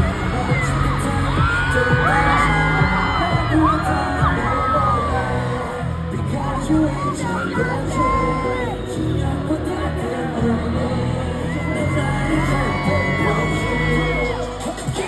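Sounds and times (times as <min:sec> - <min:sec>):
crowd whooping: 0:00.0 - 0:15.0
live pop music: 0:00.0 - 0:15.0.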